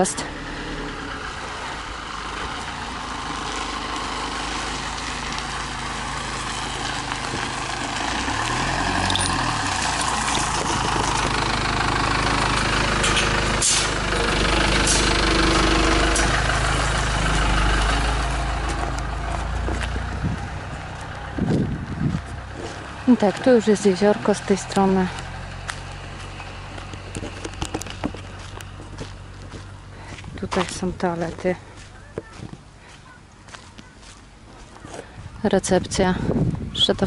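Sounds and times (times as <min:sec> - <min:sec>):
motorhome engine idling: 0:00.0 - 0:36.7.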